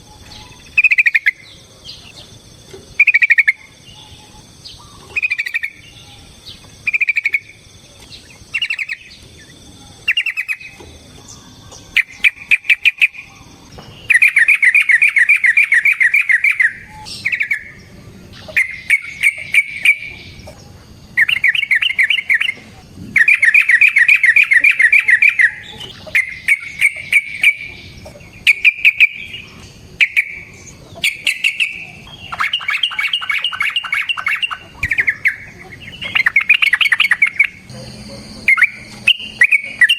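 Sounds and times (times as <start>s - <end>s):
rapid bird trills: 0.0s - 39.9s.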